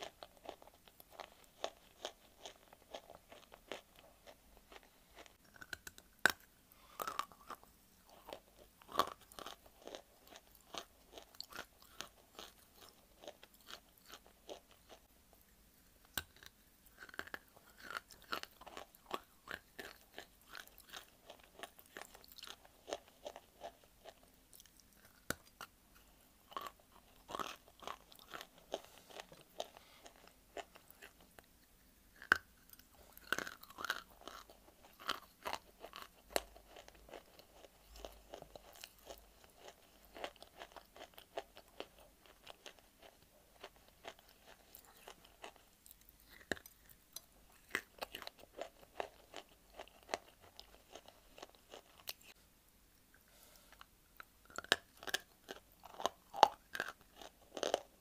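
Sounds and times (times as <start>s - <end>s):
crunchy chewing of dry clay: 0.0s - 15.1s, 15.8s - 52.4s, 53.1s - 58.0s.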